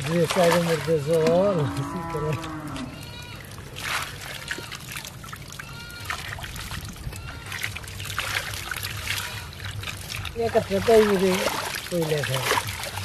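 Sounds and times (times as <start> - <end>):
shallow water splashing: 0.0 - 13.0.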